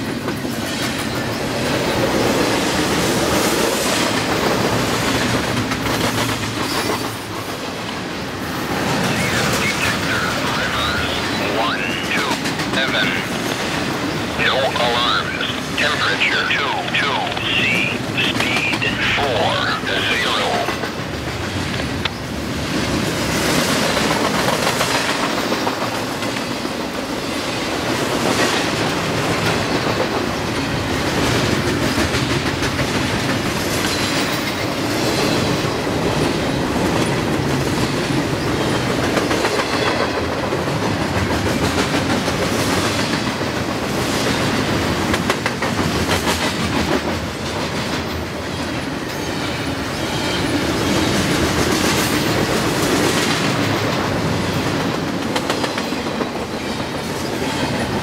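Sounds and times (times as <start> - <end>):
train rumbling past: 0.0 - 14.4, 20.0 - 58.0.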